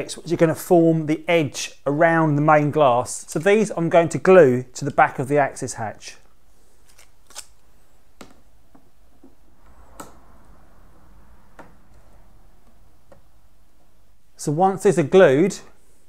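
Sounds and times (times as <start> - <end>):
low steady room hum: 0.0 - 16.0.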